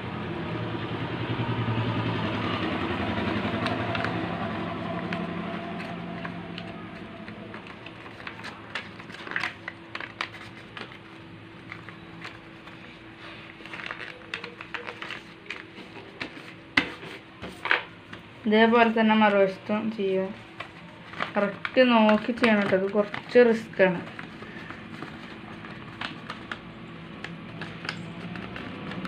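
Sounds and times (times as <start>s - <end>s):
vehicle engine humming: 0.0s - 29.0s
paper rustling and crinkling: 3.2s - 29.0s.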